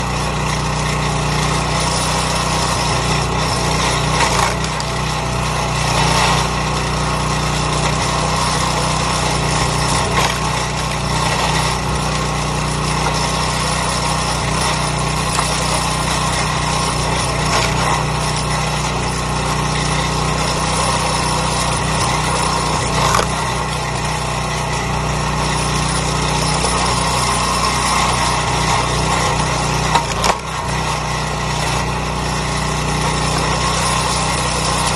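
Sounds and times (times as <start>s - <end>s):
small gas engine running: 0.0s - 34.9s.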